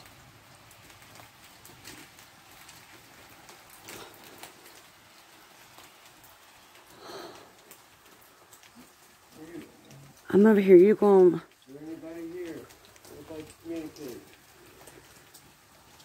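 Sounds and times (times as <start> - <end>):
rain dripping and pattering: 0.0 - 16.0.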